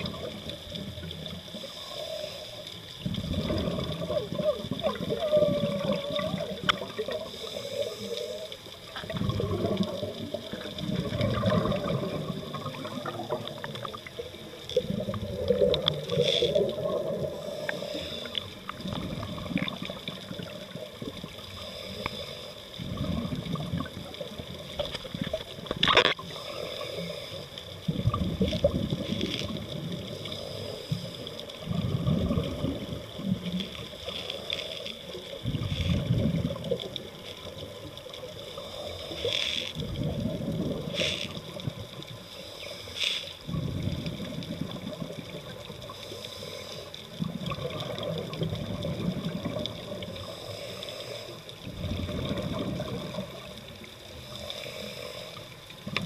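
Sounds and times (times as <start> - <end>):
water sloshing and gurgling: 0.0 - 56.0.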